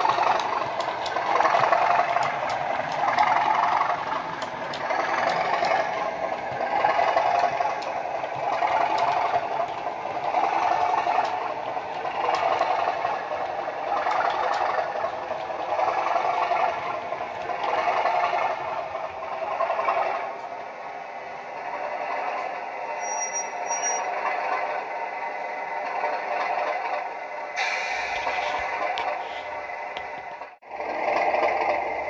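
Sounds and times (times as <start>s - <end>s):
diesel locomotive engine working hard: 0.0s - 32.0s.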